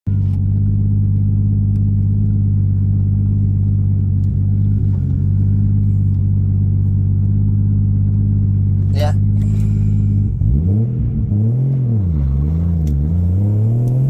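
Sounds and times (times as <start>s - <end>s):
car engine idling with deep rumble: 0.1s - 14.0s.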